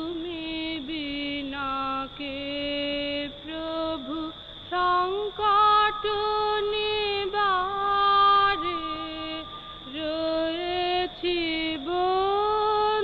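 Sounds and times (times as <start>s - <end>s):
boy singing devotional song: 0.0s - 13.0s.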